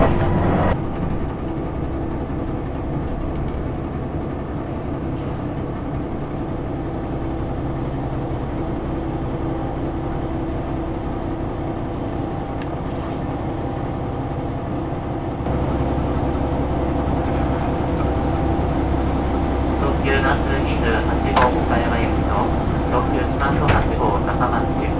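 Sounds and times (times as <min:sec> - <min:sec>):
diesel railcar engine drone: 0:00.0 - 0:24.9.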